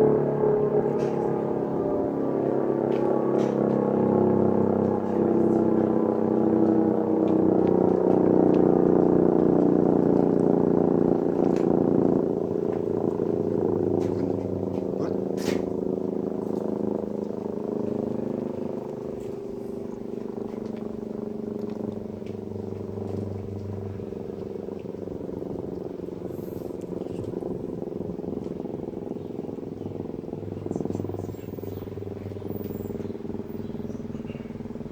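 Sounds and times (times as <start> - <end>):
civil defence siren droning: 0.0 - 34.9.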